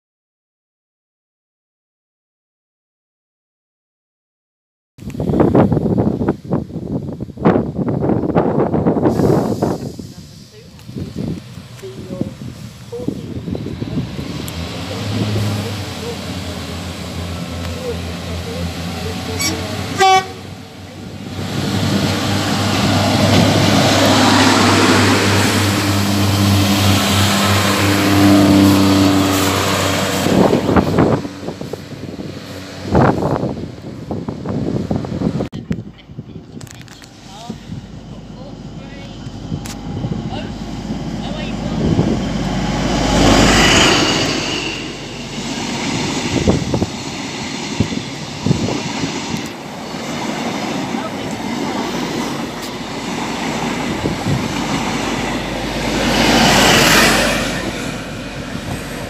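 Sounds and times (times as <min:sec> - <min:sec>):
wheels rumbling on rails: 0:05.0 - 0:59.0
train engine humming: 0:05.1 - 0:59.0.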